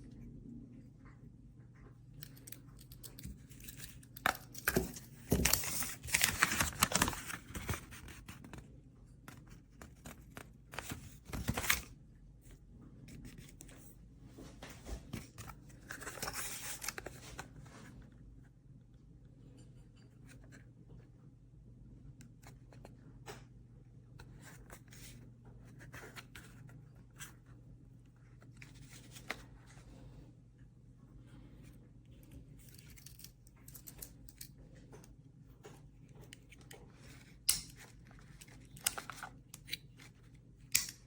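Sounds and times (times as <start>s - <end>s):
low steady hum: 0.0s - 41.0s.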